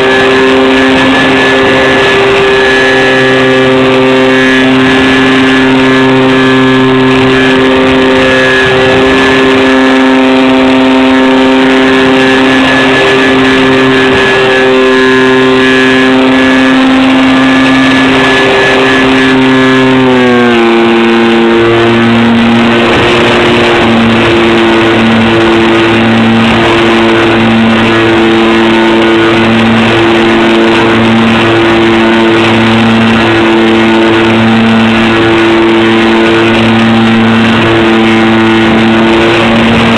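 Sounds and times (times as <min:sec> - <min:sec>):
model plane propellers droning: 0:00.0 - 0:39.9.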